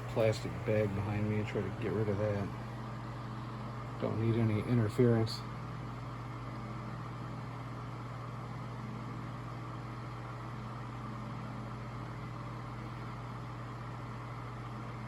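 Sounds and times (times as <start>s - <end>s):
table fan running: 0.0s - 15.0s.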